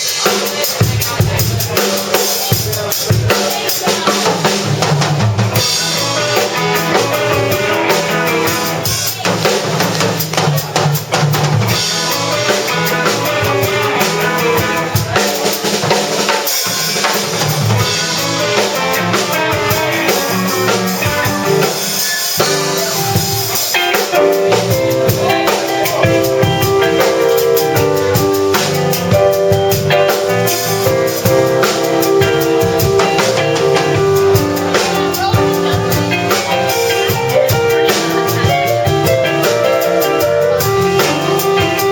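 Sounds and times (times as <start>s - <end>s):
drum kit beat: 0.0s - 41.9s
instrumental band music: 0.0s - 41.9s.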